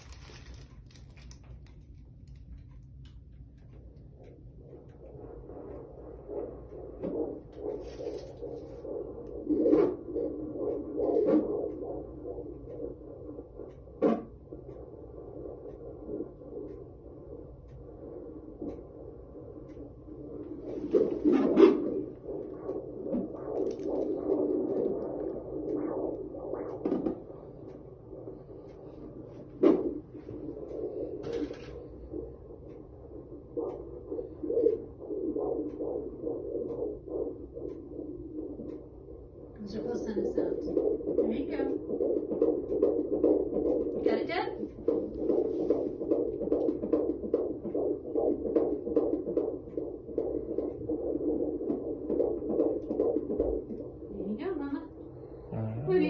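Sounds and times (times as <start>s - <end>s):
doppler heartbeat whooshing: 0.0s - 56.0s.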